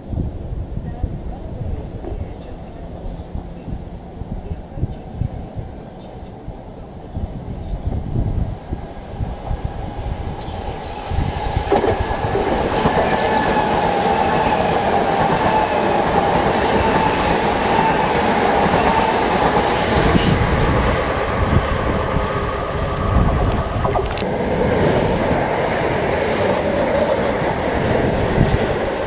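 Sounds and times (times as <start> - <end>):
electric train whine: 0.0 - 29.0
train wheels rumbling on track: 0.0 - 29.0.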